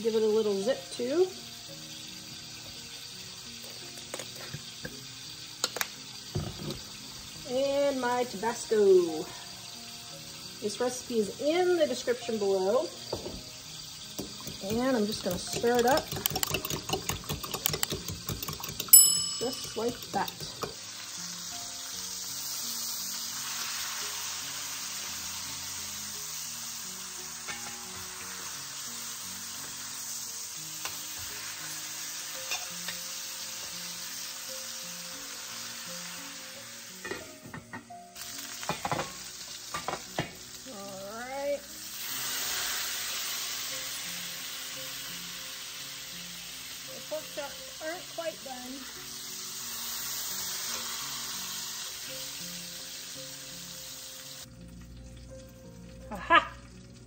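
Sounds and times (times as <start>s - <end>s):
meat sizzling in a skillet: 0.0s - 57.0s
soft background music: 0.0s - 57.0s.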